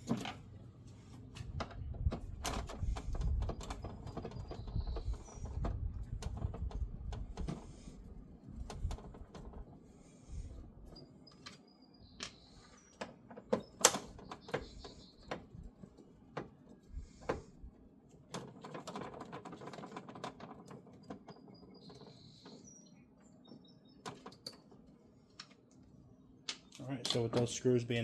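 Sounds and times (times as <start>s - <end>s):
rustling and scraping: 0.0s - 22.9s.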